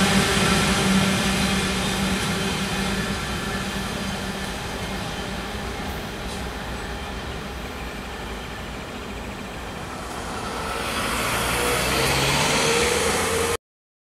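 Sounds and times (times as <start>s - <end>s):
freight train rumbling by: 0.0s - 13.6s.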